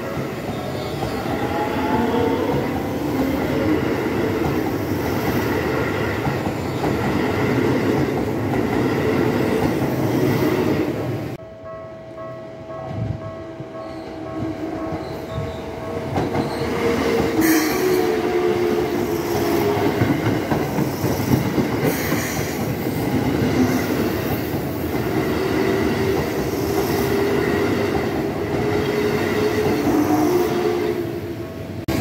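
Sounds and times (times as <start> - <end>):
train wheels rumbling on rail: 0.0 - 11.4, 12.8 - 32.0.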